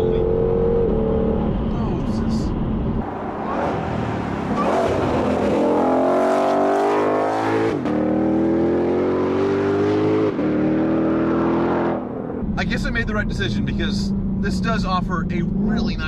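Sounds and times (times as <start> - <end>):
car engine accelerating hard: 3.0 - 16.0.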